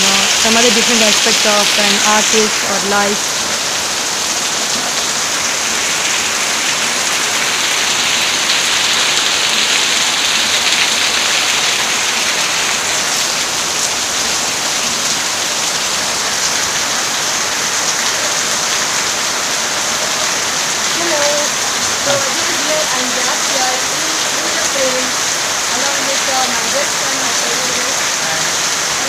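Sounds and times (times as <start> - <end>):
rain pouring: 0.0 - 29.0.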